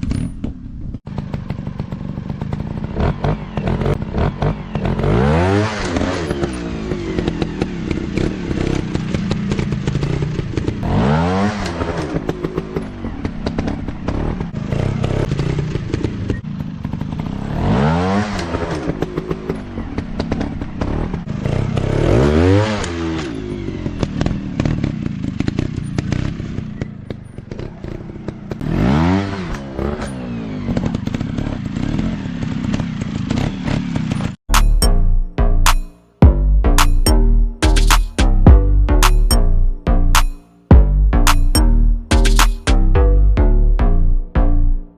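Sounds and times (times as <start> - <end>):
dirt bike engine revving: 1.1 - 26.6, 27.5 - 44.9.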